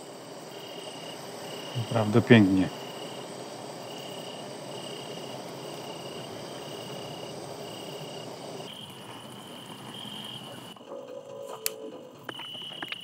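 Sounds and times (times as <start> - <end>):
background hiss: 0.0 - 13.0
crickets chirping: 0.0 - 13.0.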